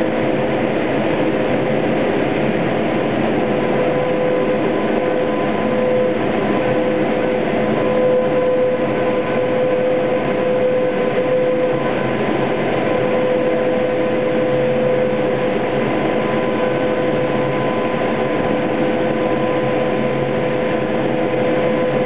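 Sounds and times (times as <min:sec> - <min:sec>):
hydraulic machine hum with high whine: 0:00.0 - 0:22.0.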